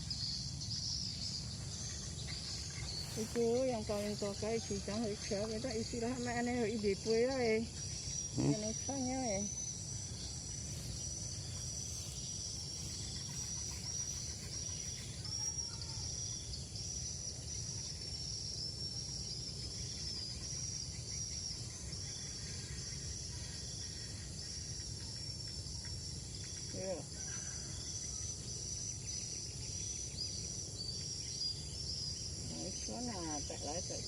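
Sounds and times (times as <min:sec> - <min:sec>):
insects pulsing chorus: 0:00.0 - 0:34.0.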